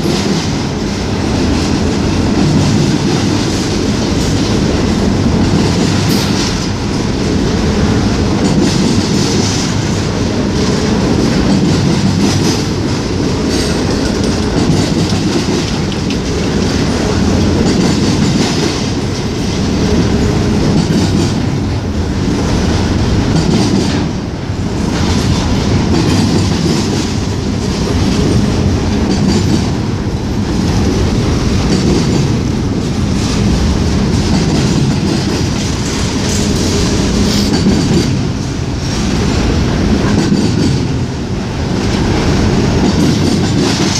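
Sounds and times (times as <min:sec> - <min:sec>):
wheels clacking over rail joints: 0:00.0 - 0:41.2, 0:41.8 - 0:43.9
freight train rumbling past: 0:00.0 - 0:43.9.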